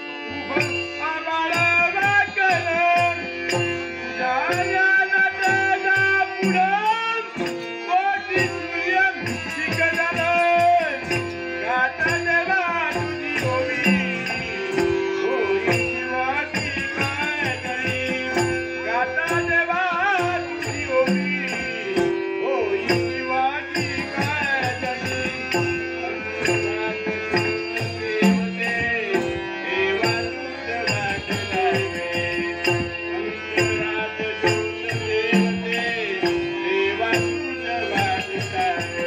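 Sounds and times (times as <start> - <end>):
harmonium phrase: 0.0 - 39.0.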